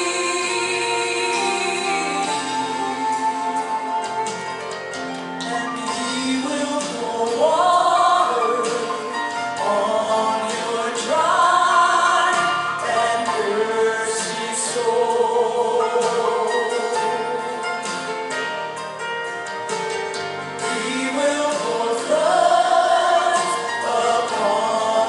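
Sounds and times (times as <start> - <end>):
voices singing slow song: 0.0 - 4.4, 5.4 - 18.0, 20.6 - 25.0
instrumental accompaniment: 0.0 - 25.0.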